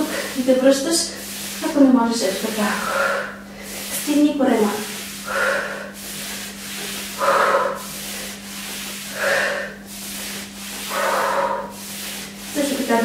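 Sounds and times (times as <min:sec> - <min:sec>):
towels swishing on wooden floor: 0:00.0 - 0:13.0.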